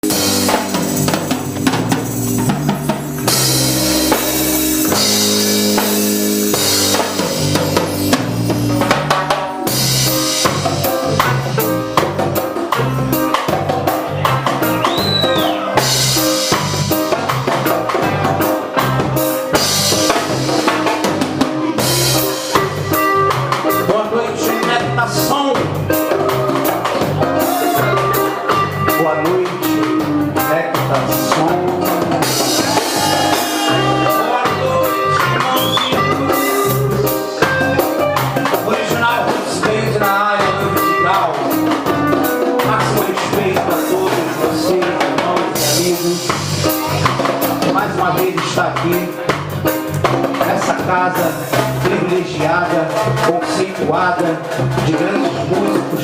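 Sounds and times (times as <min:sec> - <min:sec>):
reggae band instrumental: 0:00.0 - 0:56.0.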